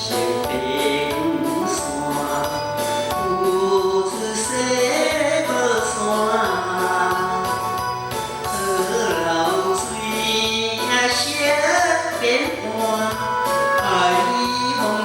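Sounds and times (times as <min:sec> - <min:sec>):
backing track with steady beat: 0:00.0 - 0:15.0
person singing: 0:00.0 - 0:15.0.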